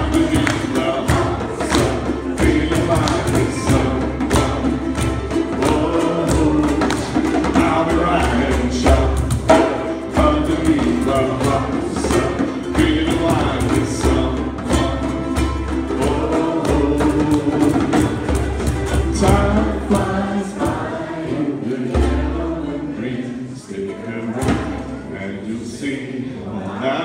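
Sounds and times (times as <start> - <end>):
ukuleles strumming: 0.0 - 26.9
group singing: 0.0 - 27.0.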